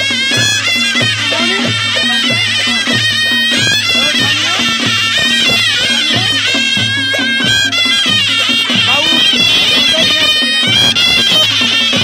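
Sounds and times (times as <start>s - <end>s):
drums beating: 0.0s - 12.0s
shawm melody: 0.0s - 12.0s.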